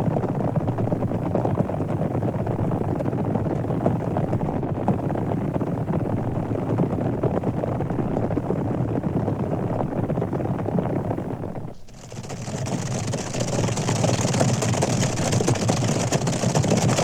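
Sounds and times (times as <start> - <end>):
rumble of many hooves: 0.0 - 17.0.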